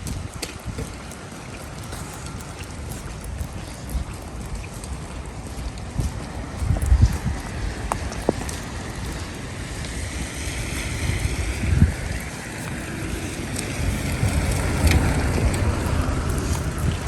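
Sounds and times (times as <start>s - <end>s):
steady outdoor hiss: 0.0s - 17.0s
wind buffeting microphone: 0.0s - 17.0s.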